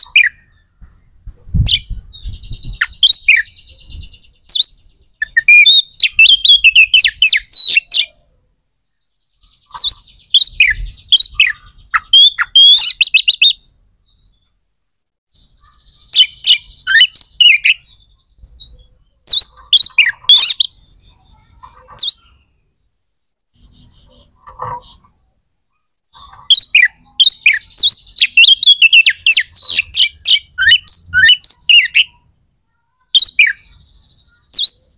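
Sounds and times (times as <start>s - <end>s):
small bird chirping: 0.0s - 14.6s, 15.3s - 34.9s.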